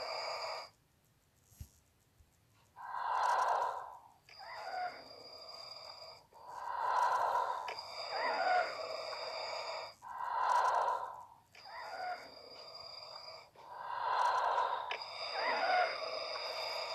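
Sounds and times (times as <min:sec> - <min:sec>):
mechanical respirator breathing: 0:00.0 - 0:00.8, 0:02.7 - 0:16.9
steady high tone: 0:02.8 - 0:16.9.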